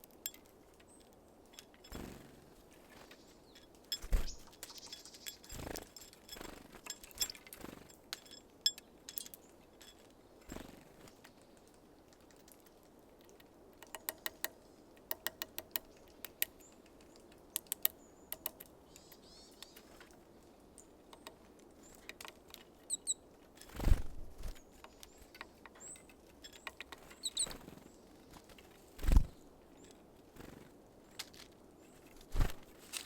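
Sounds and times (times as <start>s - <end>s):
birds pecking seeds: 0.0s - 33.0s.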